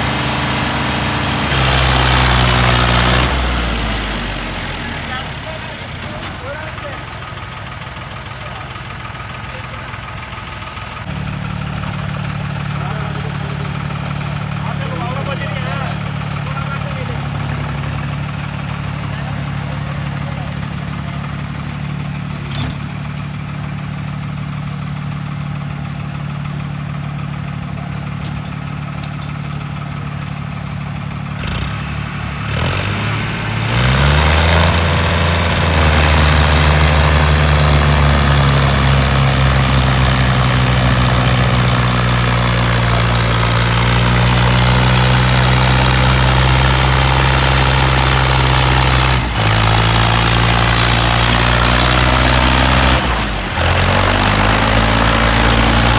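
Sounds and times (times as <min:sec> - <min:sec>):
tractor diesel engine revving: 0:00.0 - 0:55.9.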